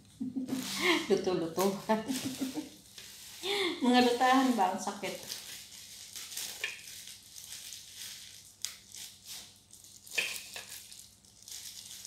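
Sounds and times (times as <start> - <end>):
leafy greens rustling: 0.0 - 12.0
plastic gloves crinkling: 0.0 - 12.0.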